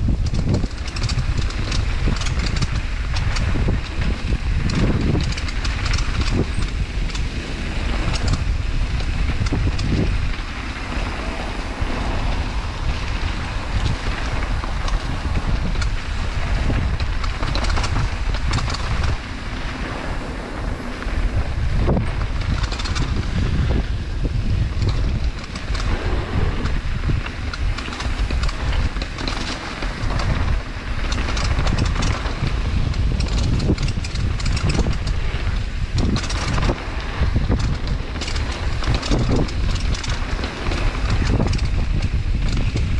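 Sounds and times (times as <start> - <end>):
bike clicks and rattles: 0.0 - 42.9
wind buffeting microphone: 0.0 - 42.9.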